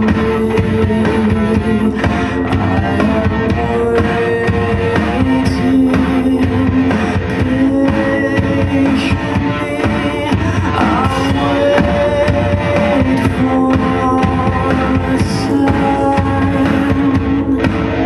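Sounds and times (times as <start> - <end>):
guitar and drum music on speakers: 0.0 - 18.0.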